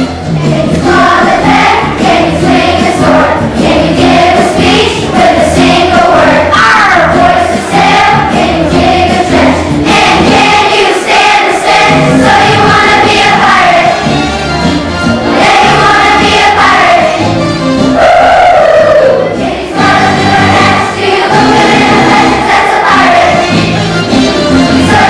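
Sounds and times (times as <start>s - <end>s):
children's choir singing: 0.0s - 25.0s
instrumental accompaniment: 0.0s - 25.0s.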